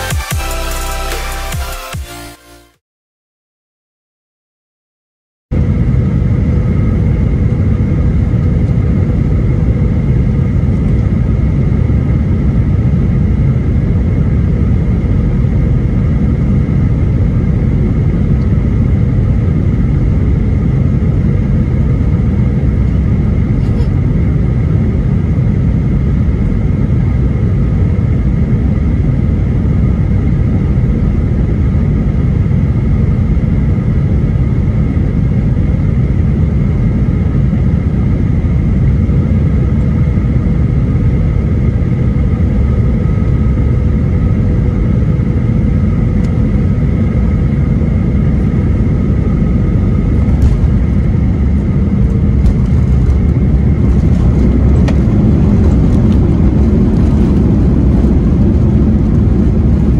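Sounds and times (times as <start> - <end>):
engine and airflow rumble: 5.5 - 59.9
jet engine whine: 5.5 - 59.9.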